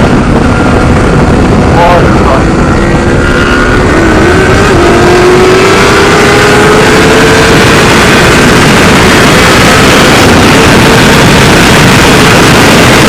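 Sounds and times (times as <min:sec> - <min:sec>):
motorcycle engine whine: 0:00.0 - 0:13.0
wind rushing over microphone: 0:00.0 - 0:13.0.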